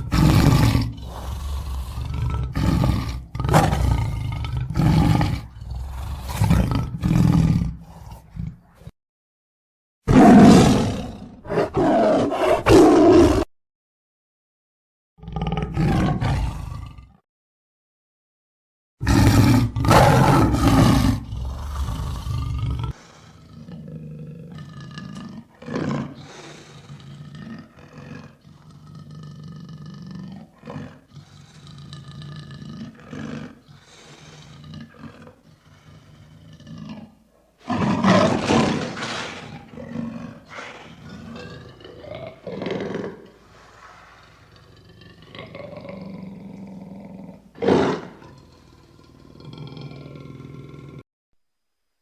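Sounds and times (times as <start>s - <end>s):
lion roaring: 0.0s - 8.9s, 10.1s - 13.5s, 15.2s - 17.2s, 19.0s - 51.0s.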